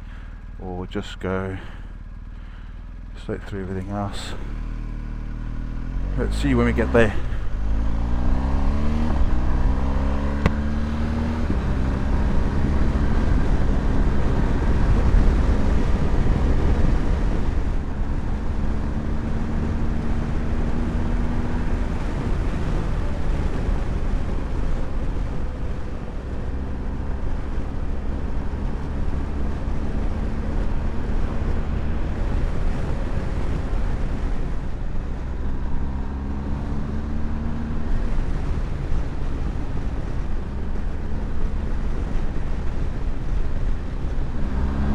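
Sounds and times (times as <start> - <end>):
motorcycle engine accelerating: 0.0 - 44.9
wind rumble on microphone: 7.2 - 44.9.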